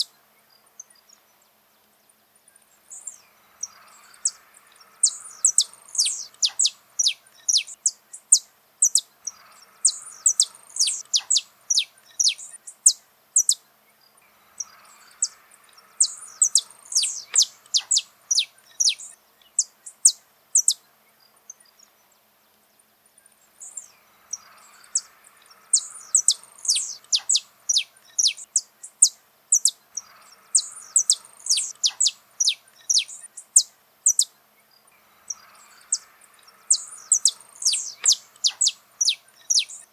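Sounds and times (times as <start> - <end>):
finch singing high sharp notes: 2.9 - 13.6, 14.2 - 20.8, 23.6 - 34.4, 35.0 - 39.9.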